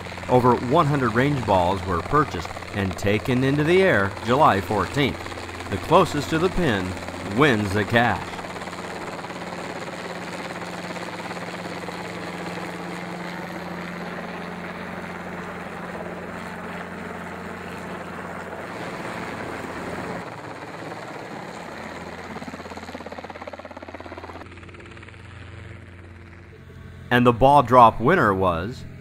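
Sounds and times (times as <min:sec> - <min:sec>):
helicopter flying overhead: 0:00.0 - 0:29.0.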